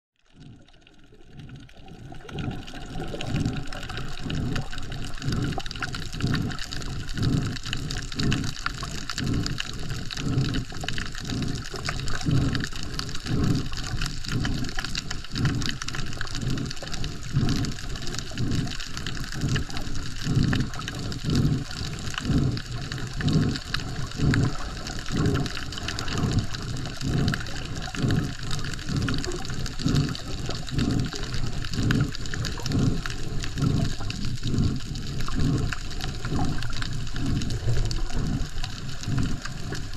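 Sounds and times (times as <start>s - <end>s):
low pulsing of swimming: 0.2s - 39.9s
water sloshing underwater: 0.2s - 39.9s.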